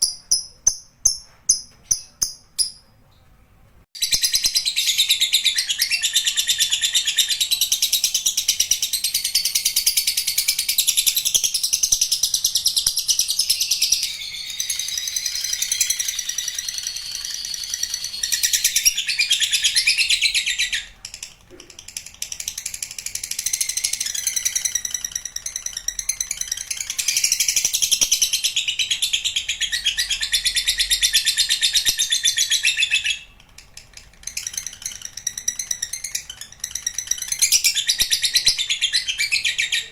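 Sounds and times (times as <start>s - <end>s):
bird chattering trill: 4.0s - 39.9s.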